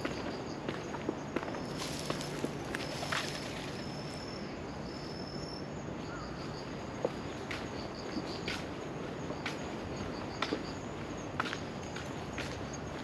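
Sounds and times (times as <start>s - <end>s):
footsteps on paved path: 0.0s - 4.3s, 6.0s - 13.0s
insects trilling: 0.0s - 13.0s.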